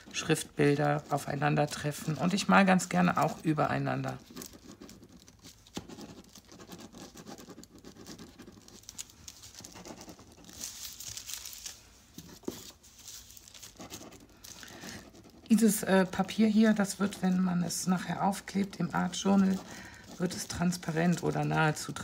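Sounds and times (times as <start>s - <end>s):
pen scratching on paper: 0.0s - 8.9s, 9.5s - 10.7s, 13.6s - 22.0s
paper crinkling: 0.0s - 22.0s.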